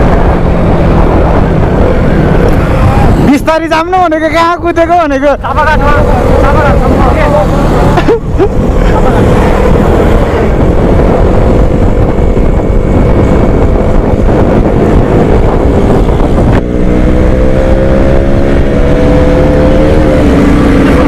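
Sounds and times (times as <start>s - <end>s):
vehicle engine running: 0.0s - 21.0s
wind noise on microphone: 0.0s - 21.0s.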